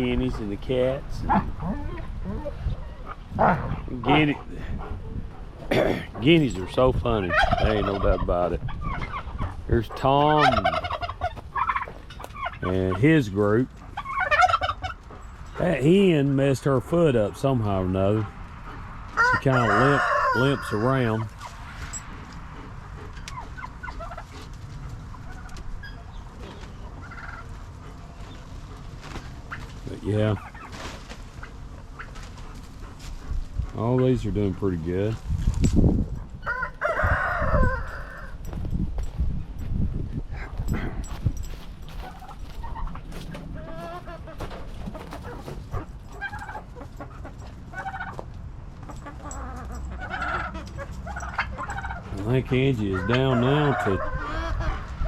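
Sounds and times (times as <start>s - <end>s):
turkeys calling: 0.0s - 35.3s, 36.3s - 38.5s, 41.5s - 55.0s
chickens clucking: 0.0s - 38.6s, 40.3s - 55.0s.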